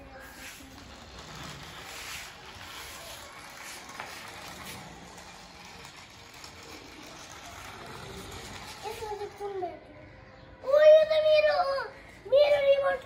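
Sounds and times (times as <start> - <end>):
toy truck driving on tiled floor: 0.0 - 13.0.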